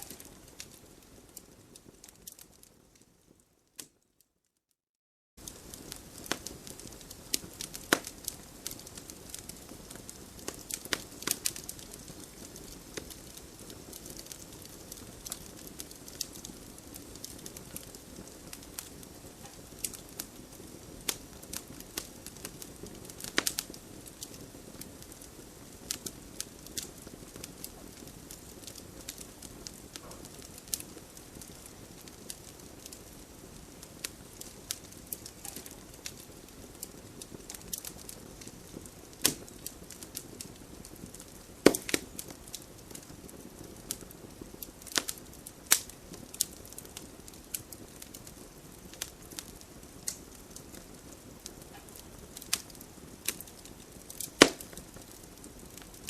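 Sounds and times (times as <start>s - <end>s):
campfire crackling and popping: 0.0s - 4.1s, 5.4s - 56.0s.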